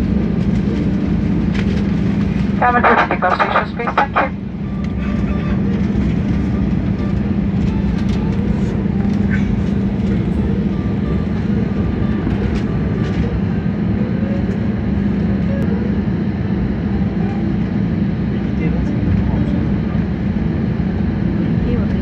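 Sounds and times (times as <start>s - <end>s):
jet airliner cabin noise: 0.0s - 22.0s.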